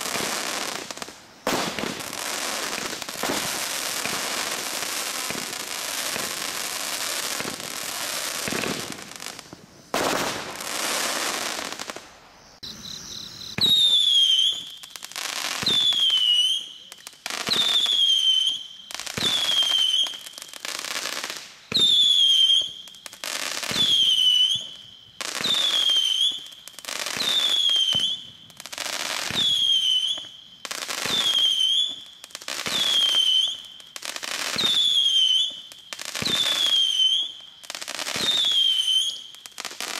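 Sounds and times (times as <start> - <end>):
firework crackling and bangs: 0.0 - 12.7, 13.6 - 39.9
whistling firework shots: 0.0 - 39.9.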